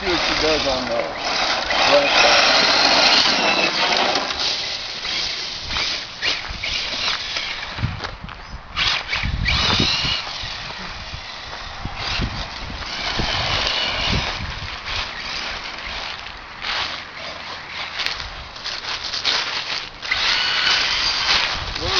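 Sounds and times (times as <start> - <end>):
electric motor whining: 0.0 - 18.4, 19.0 - 21.9.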